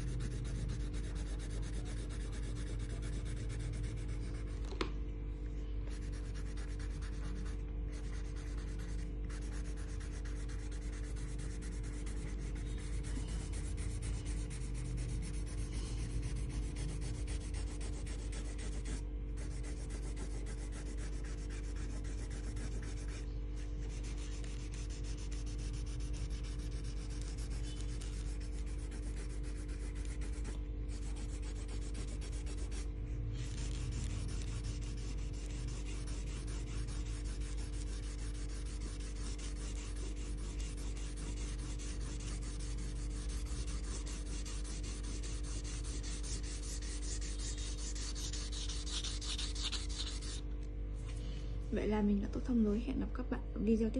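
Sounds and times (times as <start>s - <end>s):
scribbling on paper: 0.0s - 4.6s, 5.9s - 50.4s
steady low hum: 0.0s - 53.9s.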